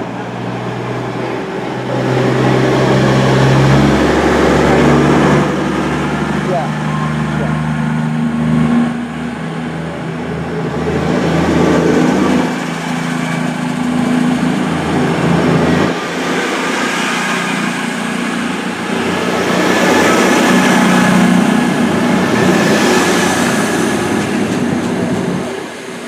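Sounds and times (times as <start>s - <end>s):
train diesel engines running: 0.0s - 26.0s
wheel and rail noise: 0.0s - 26.0s.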